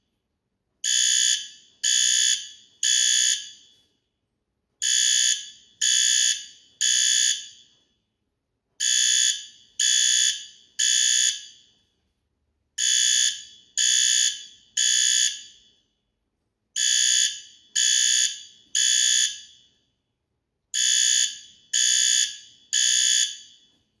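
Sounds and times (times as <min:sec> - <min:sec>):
fire alarm blasts: 0:00.8 - 0:04.0, 0:04.8 - 0:08.0, 0:08.8 - 0:12.0, 0:12.8 - 0:16.0, 0:16.8 - 0:20.0, 0:20.7 - 0:23.9.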